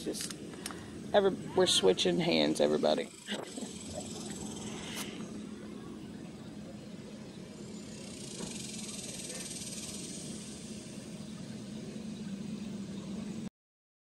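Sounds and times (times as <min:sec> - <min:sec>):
faint high hiss: 0:00.0 - 0:13.5
low even hum: 0:00.0 - 0:13.5.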